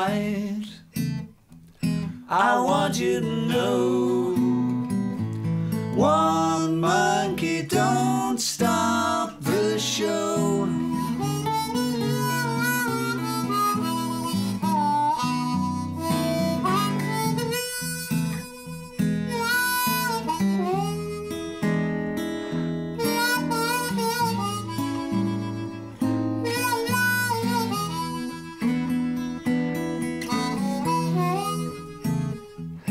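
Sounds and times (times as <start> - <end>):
blues harmonica: 0.0 - 32.9
strummed acoustic guitar: 0.0 - 32.9.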